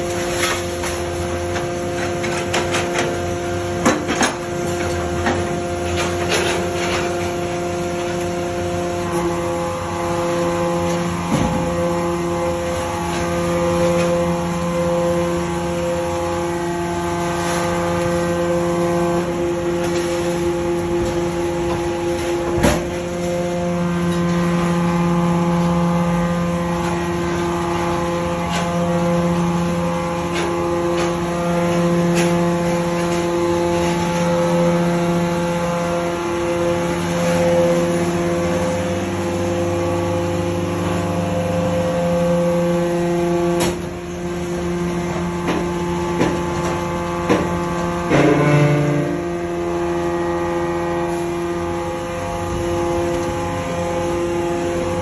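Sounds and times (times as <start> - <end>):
hydraulic baler humming: 0.0 - 55.0.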